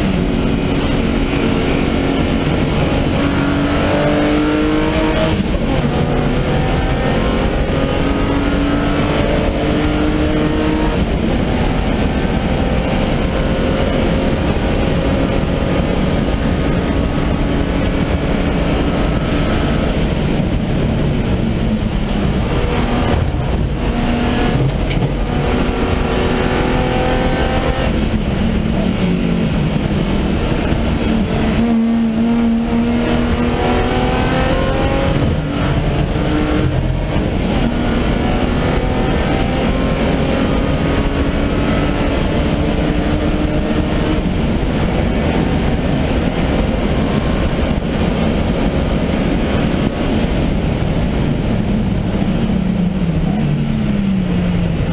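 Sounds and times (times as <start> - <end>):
race car engine accelerating: 0.0 - 54.9.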